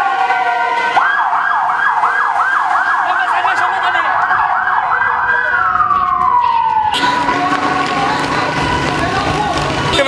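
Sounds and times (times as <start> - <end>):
ambulance siren yelping: 0.0 - 10.0.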